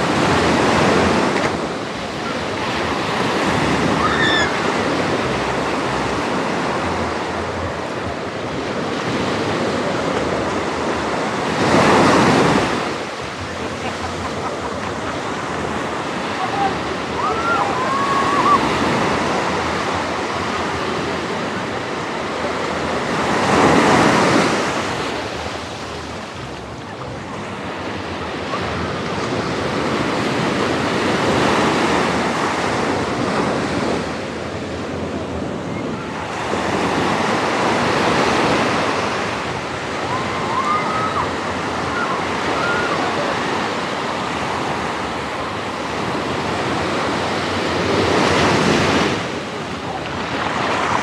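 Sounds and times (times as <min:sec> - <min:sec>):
small waves breaking on beach: 0:00.0 - 0:51.0.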